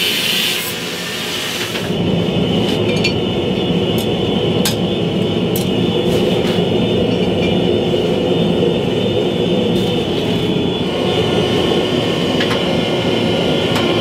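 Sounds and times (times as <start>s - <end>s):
gas burner whistling: 0.0s - 14.0s.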